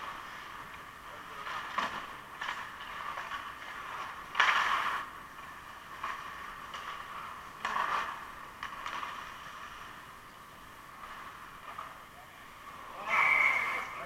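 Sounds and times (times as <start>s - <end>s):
skate blades scraping ice: 0.0s - 14.0s.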